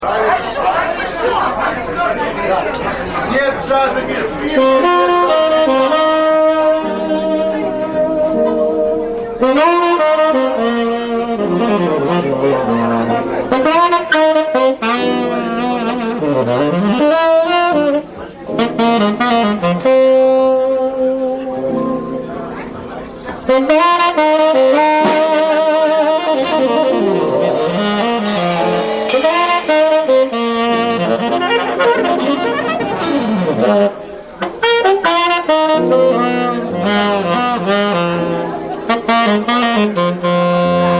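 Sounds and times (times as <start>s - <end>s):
jazz quartet playing: 0.1s - 40.9s
horn melody with held notes: 1.8s - 40.9s.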